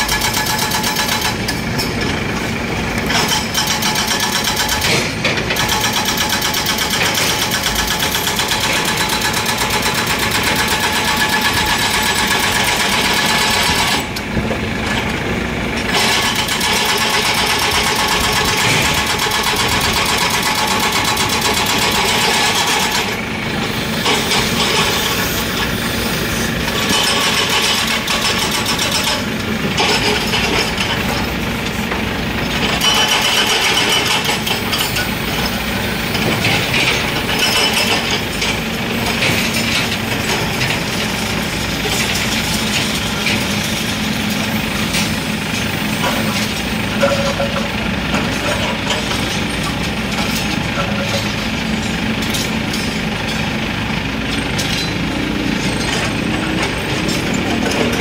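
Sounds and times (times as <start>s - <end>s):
hydraulic breaker hammering concrete: 0.0s - 2.2s, 3.0s - 15.1s, 15.7s - 58.0s
excavator engine running: 0.0s - 58.0s.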